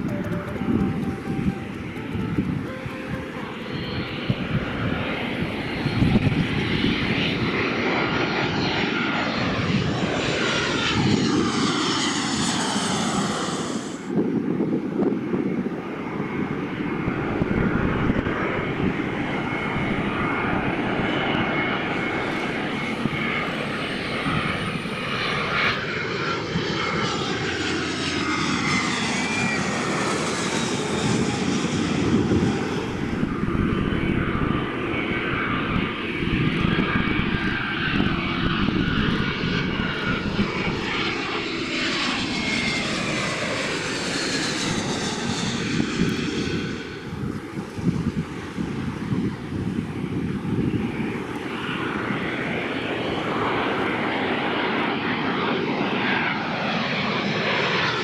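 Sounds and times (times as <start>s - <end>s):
airliner engines roaring: 0.0s - 58.0s
faint engine whine: 0.0s - 58.0s.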